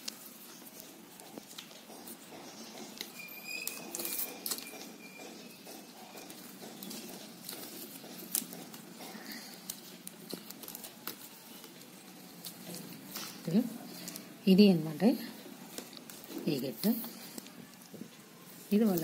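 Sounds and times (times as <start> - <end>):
plastic wire rustling and ticking: 0.0 - 19.0.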